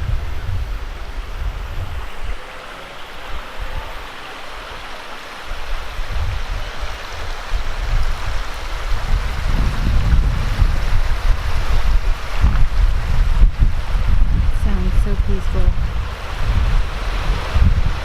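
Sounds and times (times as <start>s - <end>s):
stream water running: 0.0s - 18.0s
wind buffeting microphone: 0.0s - 18.0s.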